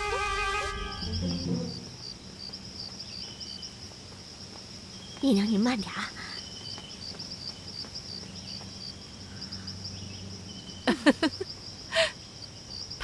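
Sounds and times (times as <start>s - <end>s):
crickets chirping: 0.1s - 13.0s.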